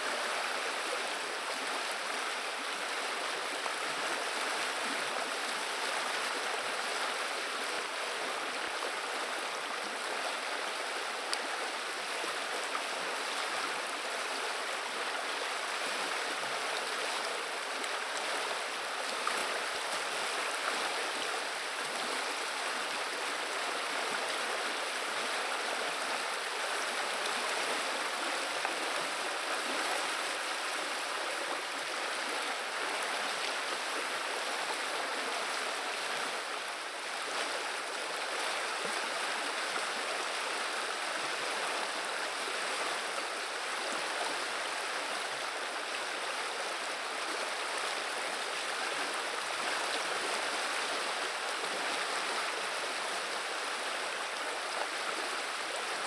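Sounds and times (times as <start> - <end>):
river water babbling and rushing: 0.0 - 56.0.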